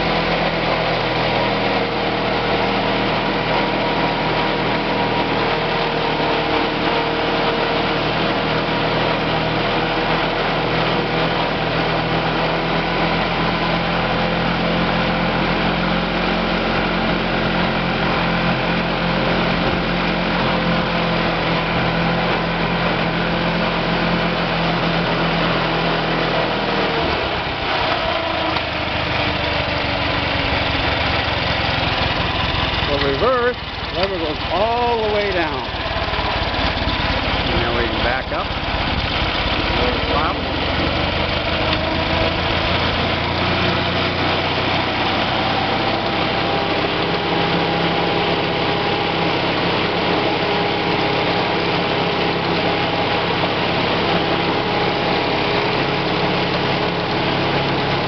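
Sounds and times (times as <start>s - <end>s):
garden tractor engine running: 0.0s - 58.0s.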